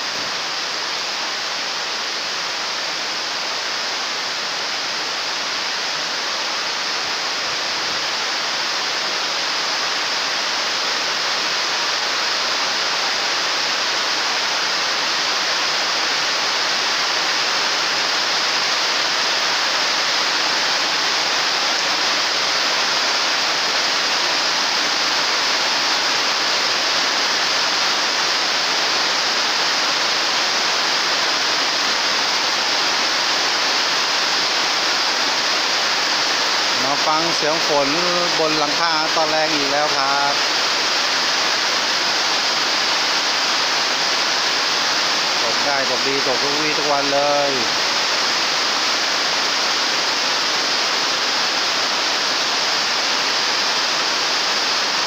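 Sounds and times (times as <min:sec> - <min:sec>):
heavy rain on canopy roof: 0:00.0 - 0:55.0.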